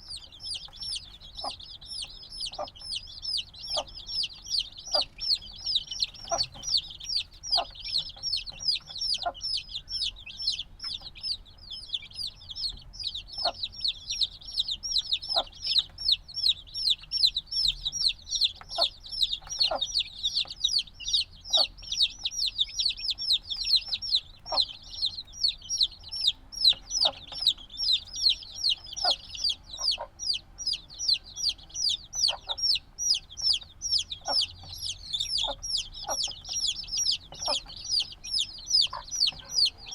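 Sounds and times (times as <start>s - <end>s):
chicks peeping: 0.0s - 39.9s
short low chick calls: 0.0s - 39.9s.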